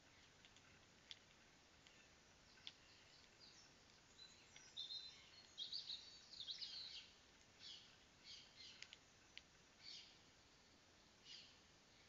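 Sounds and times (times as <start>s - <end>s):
low steady microphone hiss: 0.0s - 12.0s
songbirds chirping and trilling: 0.0s - 12.0s.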